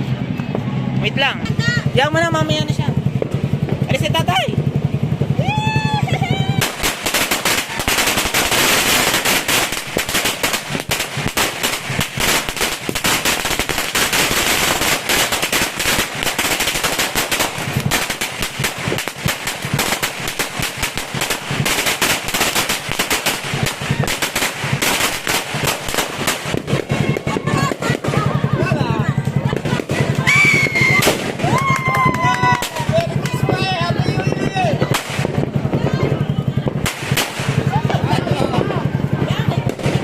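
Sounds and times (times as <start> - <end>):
firecracker string crackling: 0.0 - 40.0.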